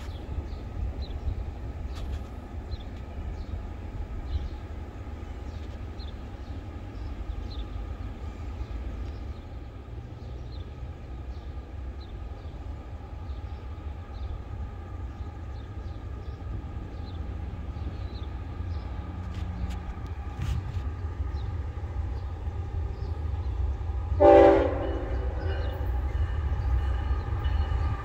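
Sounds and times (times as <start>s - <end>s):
distant freight train rumble: 0.0s - 28.0s.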